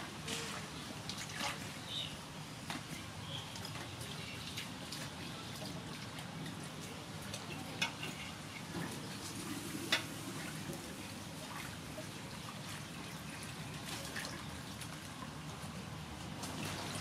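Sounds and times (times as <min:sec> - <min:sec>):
water sloshing in metal basin: 0:00.0 - 0:17.0.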